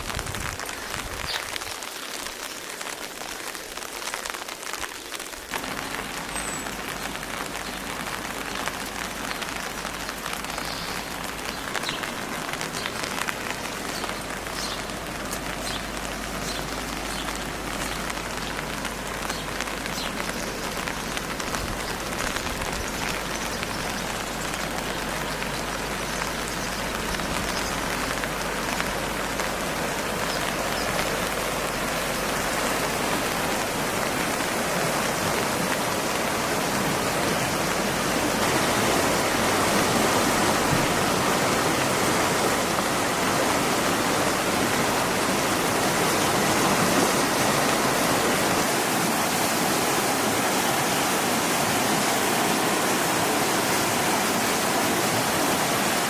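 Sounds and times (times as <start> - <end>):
rain falling: 0.0 - 56.0
raindrops ticking on a surface: 0.0 - 56.0.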